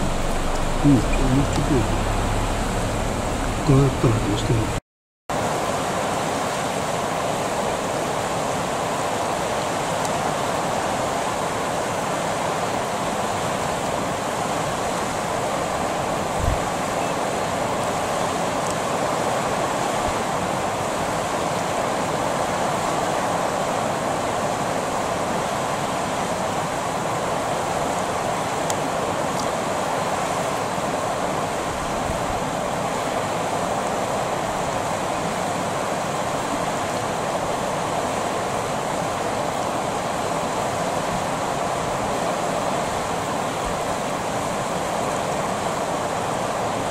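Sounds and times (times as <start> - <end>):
river water rushing over shallows: 0.0 - 46.9.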